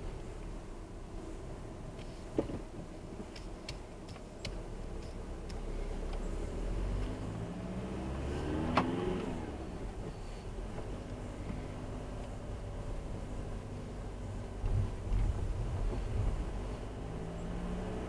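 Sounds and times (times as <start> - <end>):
car engine and tyres: 0.0 - 18.0.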